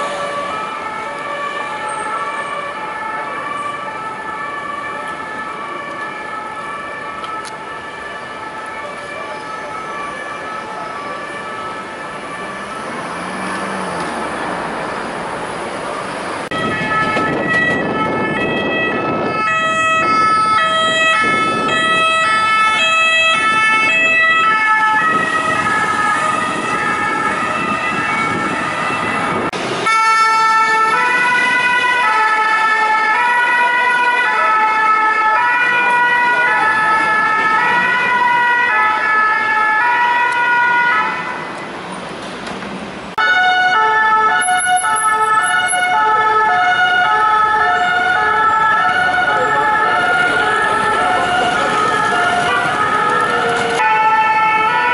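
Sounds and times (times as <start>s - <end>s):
two-tone emergency siren: 0.0s - 13.6s, 16.4s - 41.5s, 43.2s - 54.9s
city traffic: 0.0s - 54.9s.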